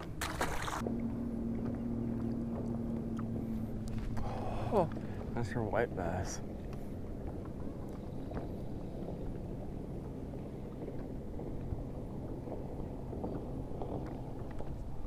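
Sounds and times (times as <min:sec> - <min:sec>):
low wind: 0:00.0 - 0:15.0
water noise from boat: 0:00.0 - 0:15.0.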